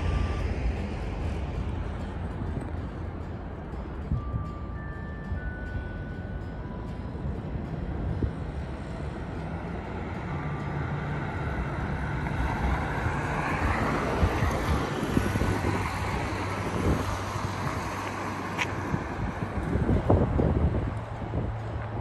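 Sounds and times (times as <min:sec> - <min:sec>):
car passing: 0:00.0 - 0:22.0
road traffic rumble: 0:00.0 - 0:22.0
wind buffeting microphone: 0:00.0 - 0:22.0.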